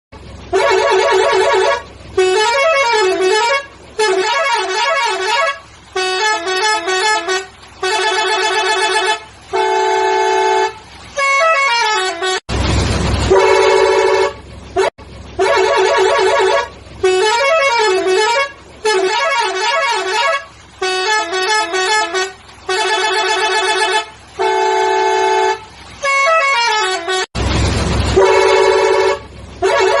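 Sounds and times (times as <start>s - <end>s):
musical multi-tone truck horn: 0.2s - 30.0s.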